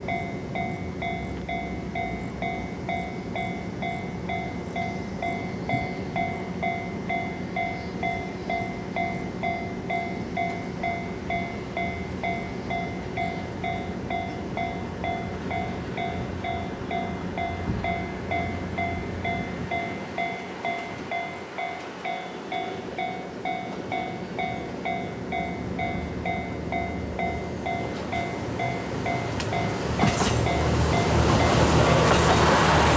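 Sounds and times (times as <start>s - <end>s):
level crossing warning bell: 0.0s - 32.1s.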